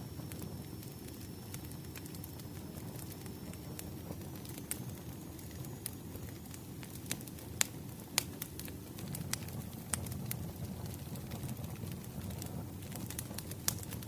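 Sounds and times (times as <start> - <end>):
wood fire crackling: 0.0 - 14.0
fire pops and snaps: 0.2 - 14.0.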